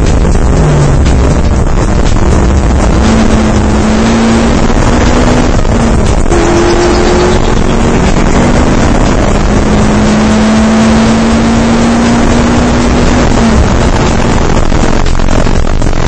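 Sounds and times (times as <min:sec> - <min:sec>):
race car engine running hard: 0:00.0 - 0:16.0
wind and road noise: 0:00.0 - 0:16.0.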